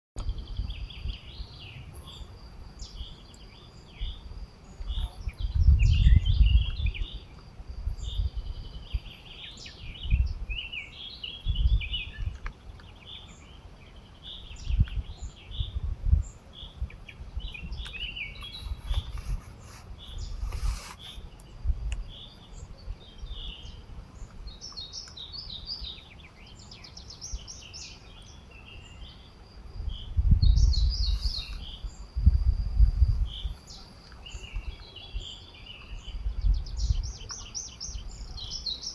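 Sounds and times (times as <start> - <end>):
songbirds chirping and singing: 0.2 - 38.9.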